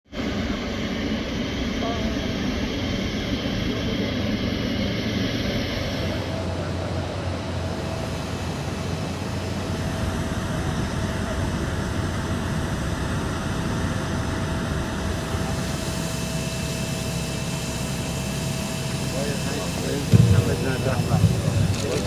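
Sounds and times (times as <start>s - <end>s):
higher engine whine: 0.1s - 22.0s
jet engines whining: 0.1s - 22.0s.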